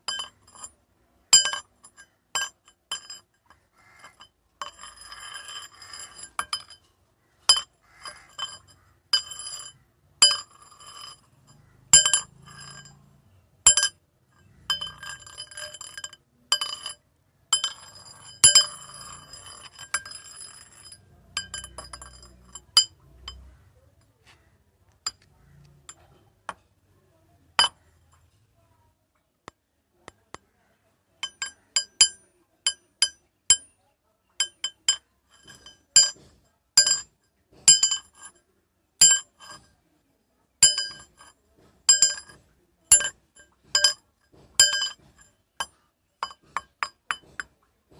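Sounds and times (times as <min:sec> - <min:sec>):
metal rods clinking together: 0:00.0 - 0:26.7, 0:27.6 - 0:28.3, 0:31.2 - 0:33.7, 0:34.4 - 0:38.4, 0:39.0 - 0:39.7, 0:40.6 - 0:47.6.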